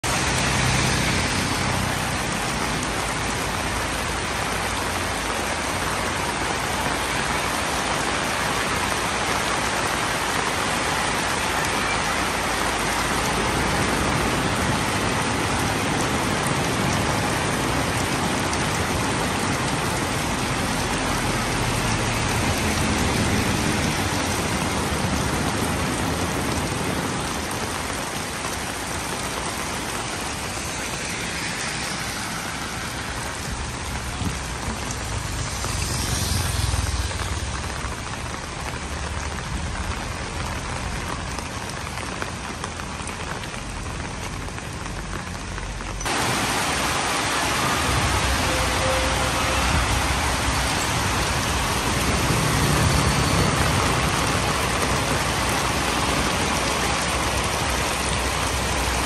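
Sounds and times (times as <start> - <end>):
rain on metal roof: 0.0 - 59.0
water streaming off roof: 0.0 - 59.0.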